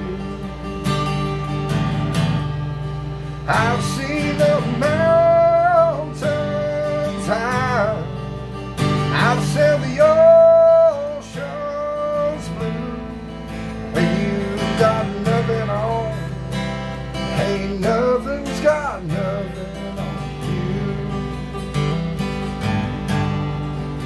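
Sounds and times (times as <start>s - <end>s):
man singing: 0.0s - 0.8s, 3.4s - 22.1s
acoustic guitar strummed: 0.0s - 24.0s.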